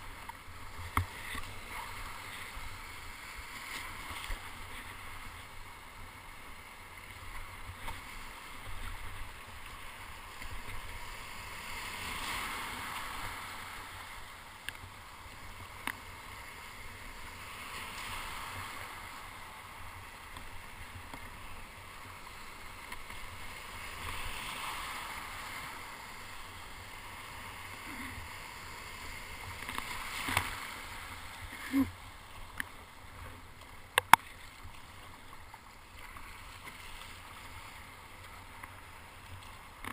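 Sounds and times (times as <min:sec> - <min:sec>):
waves splashing around kayak hull: 0:00.0 - 0:39.9.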